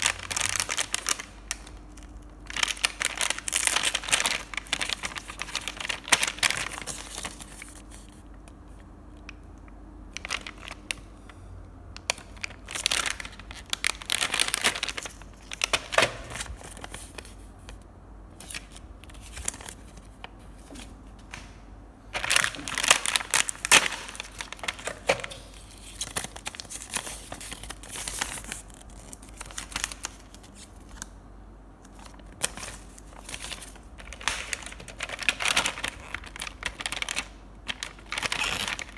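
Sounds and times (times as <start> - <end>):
cardboard and plastic packaging crinkling: 0.0 - 8.6, 10.1 - 11.2, 12.0 - 21.1, 22.1 - 31.1, 31.8 - 38.9.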